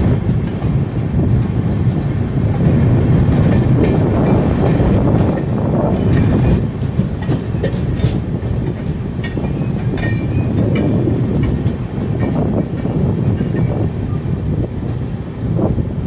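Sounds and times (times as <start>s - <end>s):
wheels clicking over rail joints: 0.0s - 15.2s
train wheels rumbling on rail: 0.0s - 16.0s.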